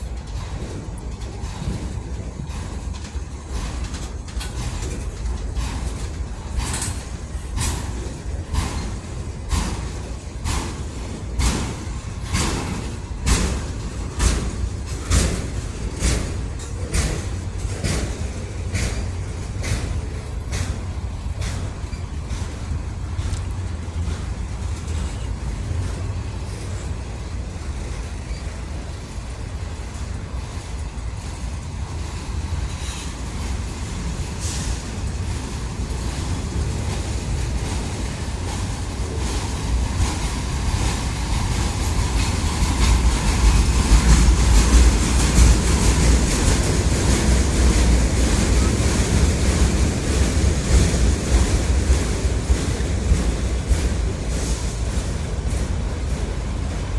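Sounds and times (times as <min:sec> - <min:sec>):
freight train rolling past: 0:00.0 - 0:56.9
wheels clicking over rail joints: 0:00.0 - 0:56.9
wind buffeting microphone: 0:00.0 - 0:56.9.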